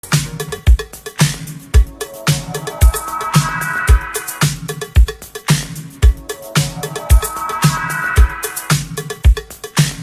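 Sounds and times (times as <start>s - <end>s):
electronic music with drum beat: 0.0s - 10.0s.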